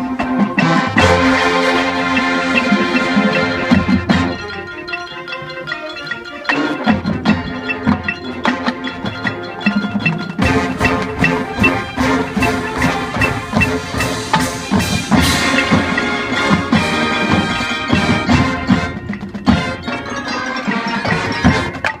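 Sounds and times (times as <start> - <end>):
mallet percussion: 0.0 - 22.0
marching band playing: 0.0 - 22.0
percussion strikes: 0.0 - 22.0.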